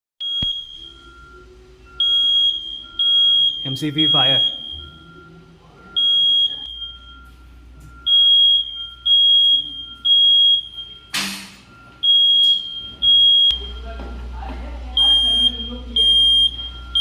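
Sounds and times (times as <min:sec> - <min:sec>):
alarm beeping: 0:00.2 - 0:14.2, 0:15.0 - 0:17.0.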